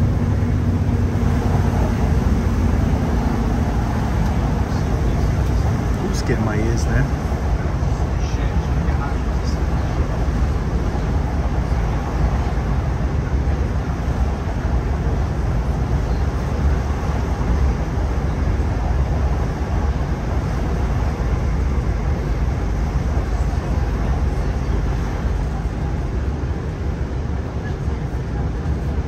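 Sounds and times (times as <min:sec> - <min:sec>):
train cabin low rumble: 0:00.0 - 0:29.0.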